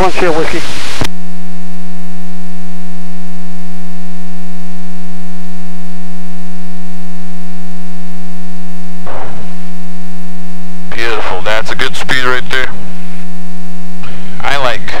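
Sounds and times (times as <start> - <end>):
electrical hum in headset audio: 0.0 - 15.0.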